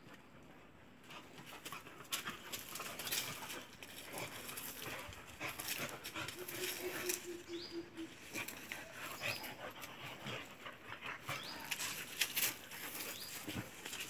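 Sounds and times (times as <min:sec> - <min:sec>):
dogs panting: 0:00.3 - 0:14.0
paws scuffling on dry leaves: 0:01.1 - 0:10.6, 0:11.2 - 0:14.0.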